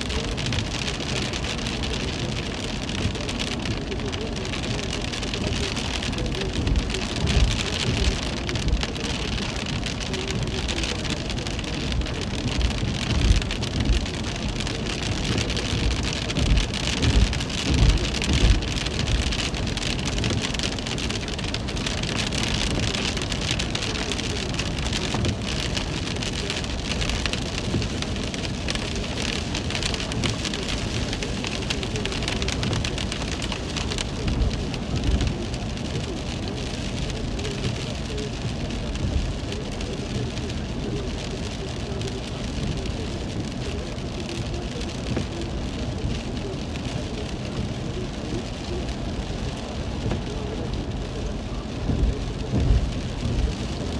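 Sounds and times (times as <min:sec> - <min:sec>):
heavy rain falling: 0:00.0 - 0:53.9
low rumbles: 0:00.0 - 0:53.9.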